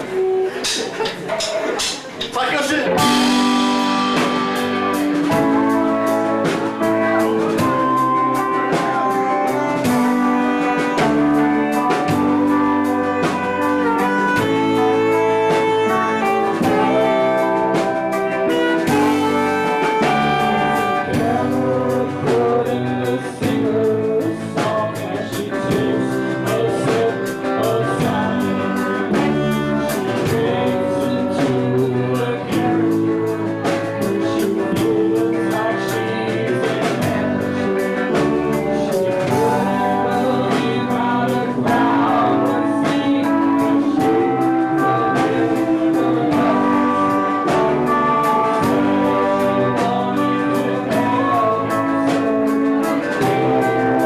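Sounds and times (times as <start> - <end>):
drum kit: 0.0 - 54.0.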